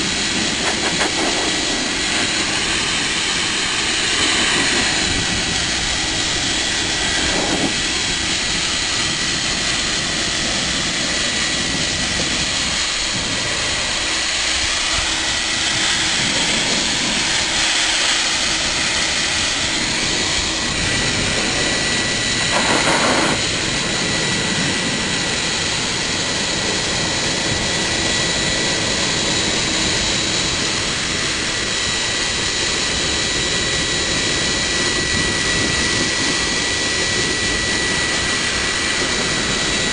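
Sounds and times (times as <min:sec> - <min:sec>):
dog dryer blowing air: 0:00.0 - 0:39.9.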